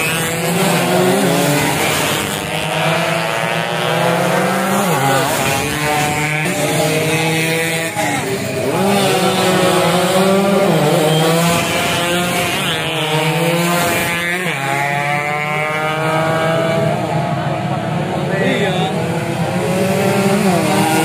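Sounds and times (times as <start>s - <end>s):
motorcycles revving past: 0.0s - 21.0s.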